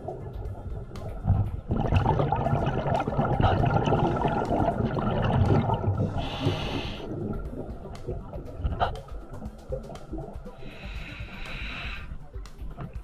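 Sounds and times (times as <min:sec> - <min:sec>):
underwater bubbles gurgling: 0:00.0 - 0:13.0.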